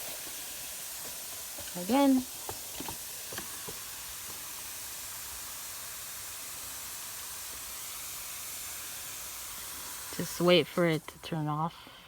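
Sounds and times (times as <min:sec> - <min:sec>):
sprinkler spraying water: 0:00.0 - 0:12.0.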